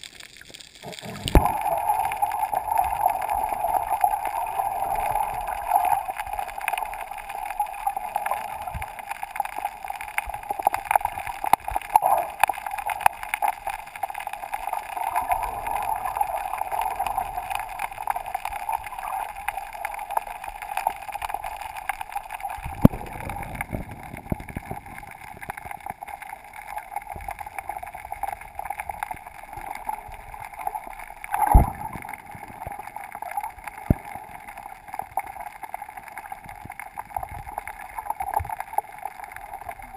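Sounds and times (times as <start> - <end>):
faint crackles: 0.0 - 39.9
underwater hum: 0.0 - 39.9.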